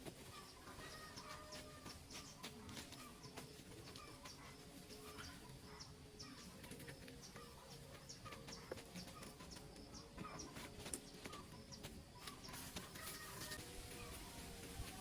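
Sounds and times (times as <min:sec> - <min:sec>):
faint forest ambience: 0:00.0 - 0:15.0
small bird chirping: 0:00.1 - 0:14.6.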